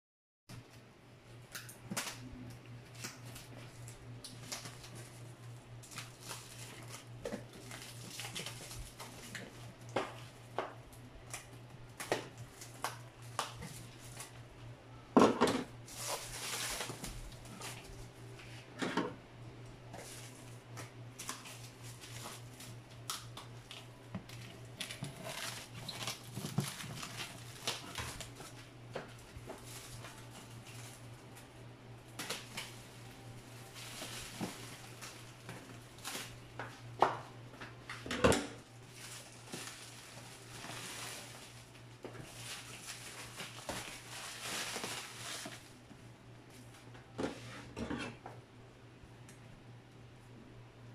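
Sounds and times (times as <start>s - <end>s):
steady low hum: 0.5s - 50.9s
plastic wrap crinkling: 1.5s - 14.4s, 15.6s - 18.1s, 19.9s - 38.0s, 38.6s - 46.0s.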